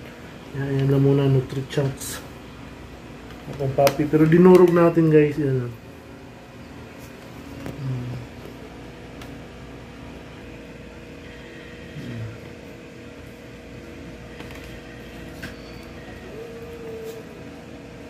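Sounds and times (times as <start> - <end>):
electric appliance humming: 0.0 - 18.0.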